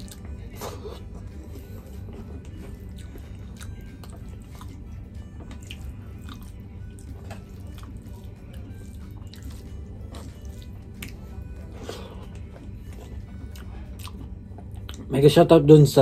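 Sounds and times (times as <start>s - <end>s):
chewing food: 0.0s - 15.1s
background music: 0.0s - 16.0s.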